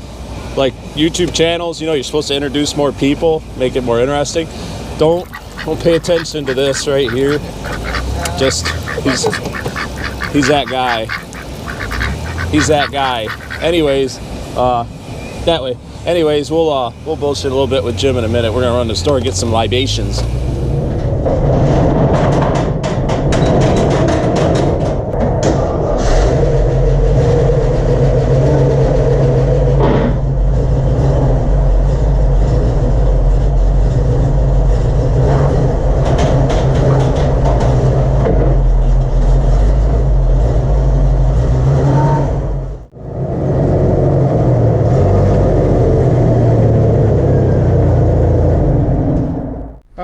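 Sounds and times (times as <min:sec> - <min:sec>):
car engine and road noise: 0:00.0 - 0:22.8, 0:26.4 - 0:50.0.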